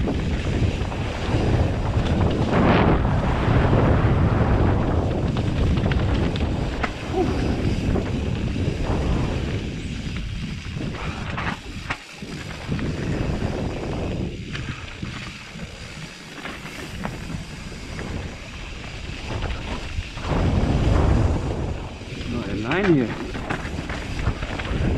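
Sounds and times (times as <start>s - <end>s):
bike rattling over bumps: 0.0s - 24.9s
bike tyres rolling on dirt: 0.0s - 24.9s
wind on microphone: 0.0s - 24.9s.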